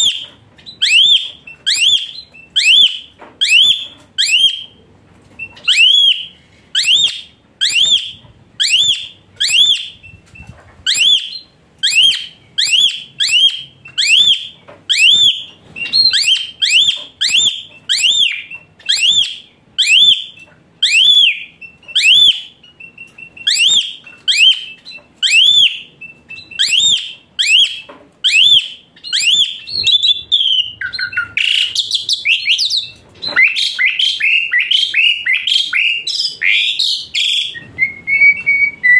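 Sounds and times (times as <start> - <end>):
starling whistled calls: 0.0 - 4.8, 5.4 - 10.2, 10.8 - 38.9.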